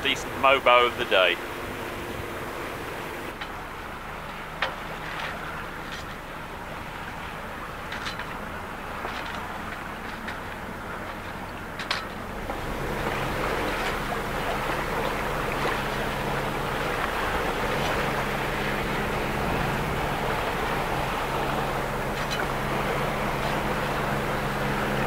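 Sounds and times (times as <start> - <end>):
engine hum: 0.0 - 25.0
sea water rushing around boat: 0.0 - 25.0
wind: 0.0 - 25.0.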